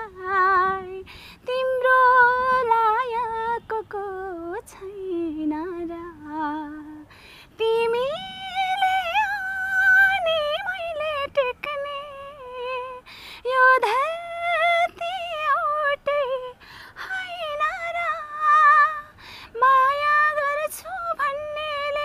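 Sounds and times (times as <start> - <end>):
woman singing unaccompanied: 0.0 - 22.0.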